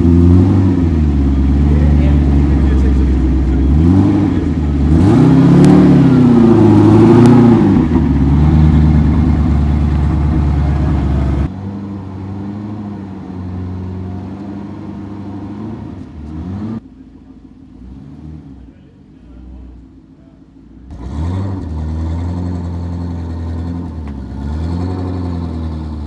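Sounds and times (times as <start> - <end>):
car engine revving and idling: 0.0 - 26.0.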